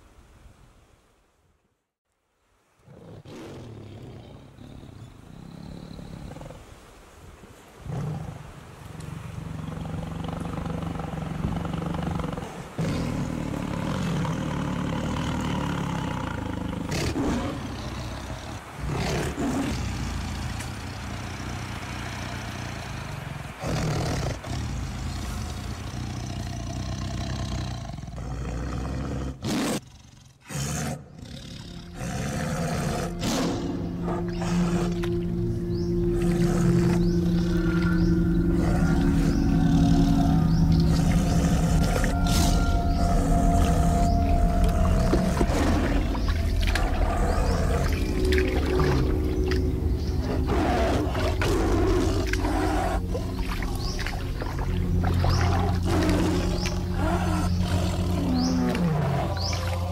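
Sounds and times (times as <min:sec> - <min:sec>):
tiger roaring and growling: 0:07.8 - 0:59.9.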